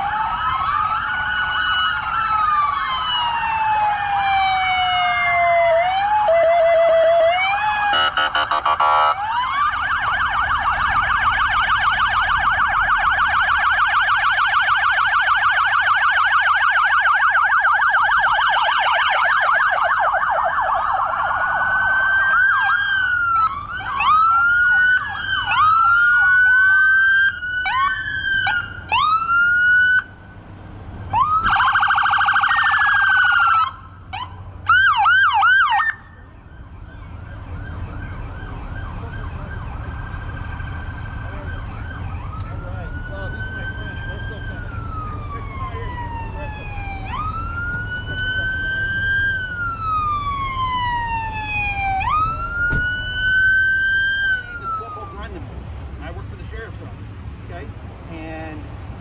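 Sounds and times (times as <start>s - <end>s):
police car sirens: 0.0s - 59.0s.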